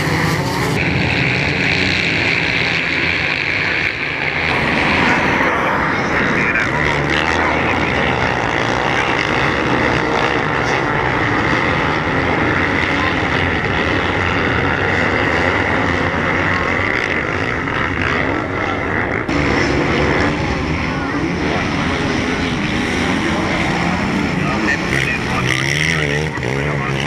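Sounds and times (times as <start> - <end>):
motocross bikes racing: 0.0 - 27.0.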